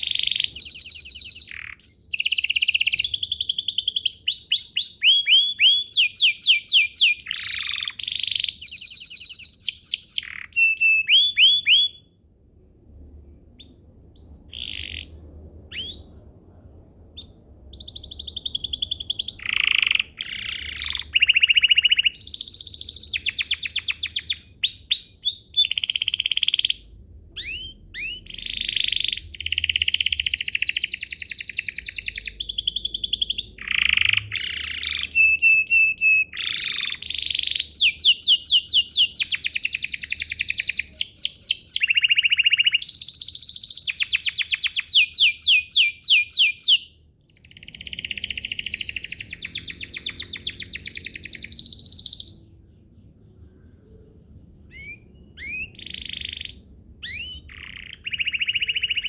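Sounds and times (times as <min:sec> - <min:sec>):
canary singing: 0:00.0 - 0:12.2, 0:13.5 - 0:16.4, 0:17.2 - 0:59.0.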